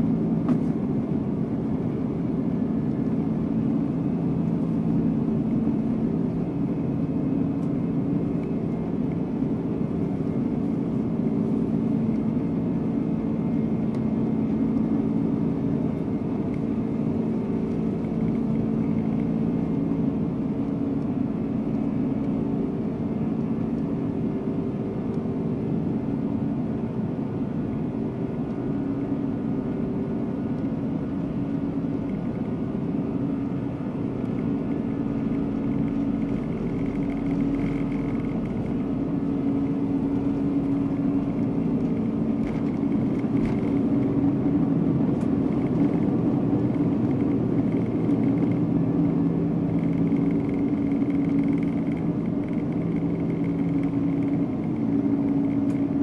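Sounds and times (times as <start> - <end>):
jet engine cabin drone: 0.0 - 56.0.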